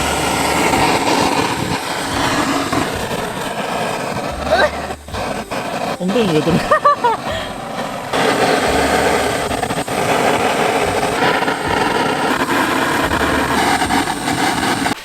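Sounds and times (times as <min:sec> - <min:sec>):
gas torch hissing: 0:00.0 - 0:15.0
low rumble: 0:00.0 - 0:15.0.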